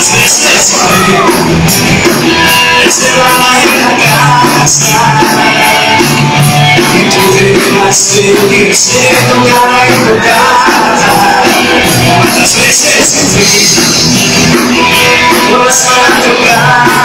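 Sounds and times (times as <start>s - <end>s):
drum and cymbal hits: 0.0s - 17.0s
electric guitar: 0.0s - 17.0s
rock band playing: 0.0s - 17.0s.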